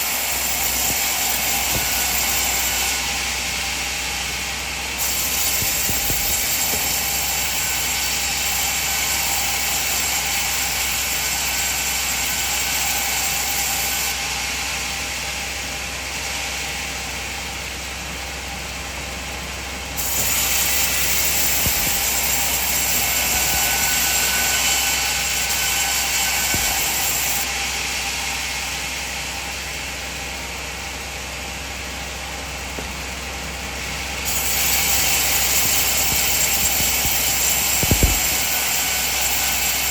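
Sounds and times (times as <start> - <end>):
band sawmill cutting wood: 0.0 - 39.9.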